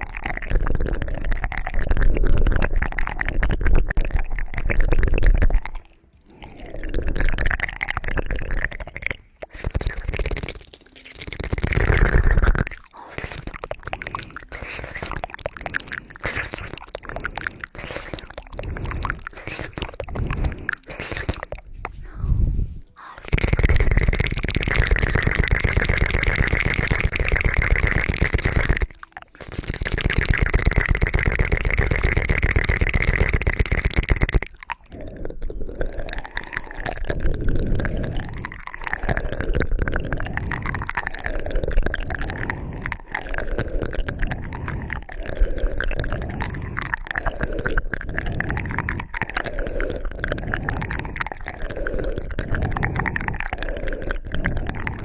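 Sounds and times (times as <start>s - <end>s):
scratchy crackle: 0.0s - 55.0s.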